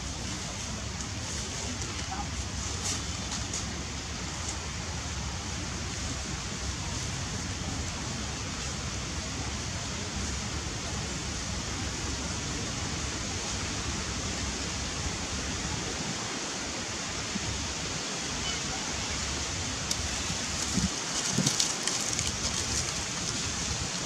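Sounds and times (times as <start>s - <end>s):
steady rushing noise: 0.0s - 24.0s.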